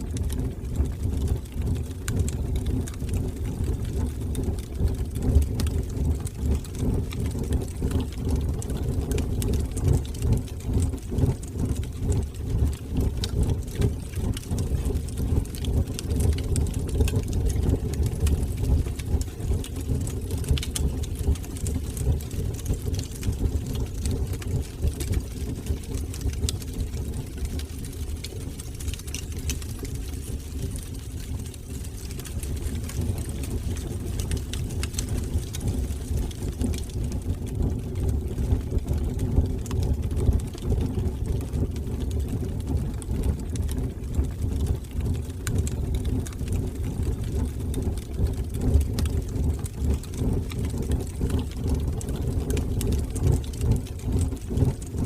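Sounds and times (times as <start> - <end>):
fire crackles and pops: 0.0 - 55.0
wood fire burning: 0.0 - 55.0.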